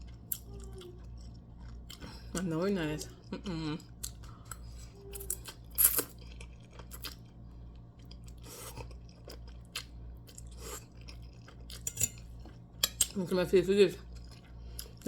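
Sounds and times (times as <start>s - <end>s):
person chewing food: 0.0s - 13.2s, 14.0s - 15.0s.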